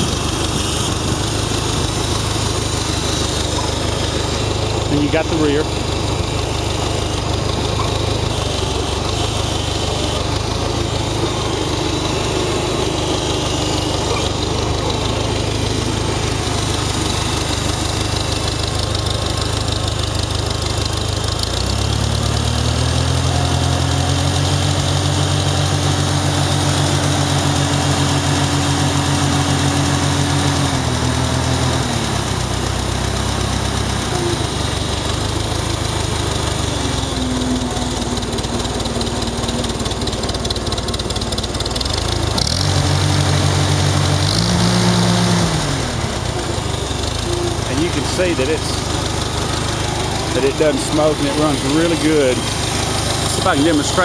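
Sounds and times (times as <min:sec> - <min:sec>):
tractor engine idling and revving: 0:00.0 - 0:54.0.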